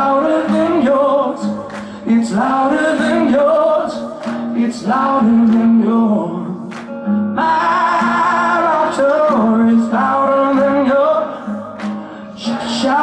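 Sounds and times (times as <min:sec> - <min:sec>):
man singing long held notes: 0:00.0 - 0:06.7, 0:07.4 - 0:13.0.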